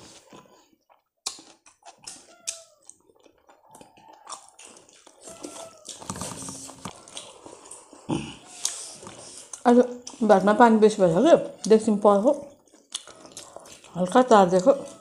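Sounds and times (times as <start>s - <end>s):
wet chewing and lip smacking: 0.3s - 10.3s, 11.5s - 15.0s.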